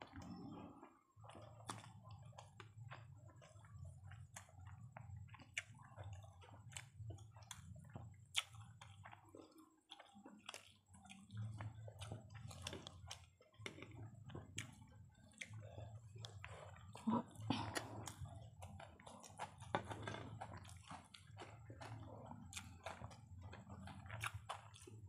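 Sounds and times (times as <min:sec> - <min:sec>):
wet chewing mouth clicks: 0:00.0 - 0:25.0.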